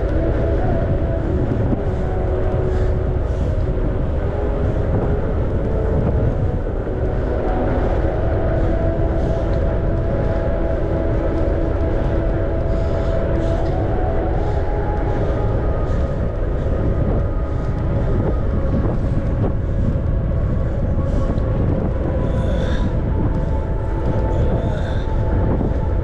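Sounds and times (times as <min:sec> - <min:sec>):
bicycle rolling on pavement: 0:00.0 - 0:26.0
faint wavering hum: 0:00.0 - 0:26.0
wind rushing over microphone: 0:00.0 - 0:26.0.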